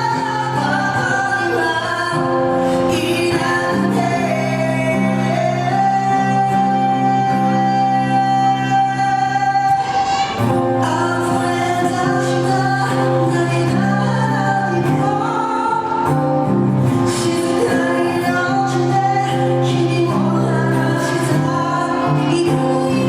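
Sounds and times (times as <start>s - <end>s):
person singing: 0.0s - 23.0s.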